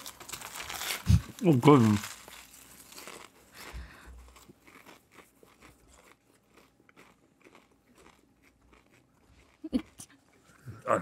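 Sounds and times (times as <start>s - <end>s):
people chewing crunchy food: 0.0s - 11.0s.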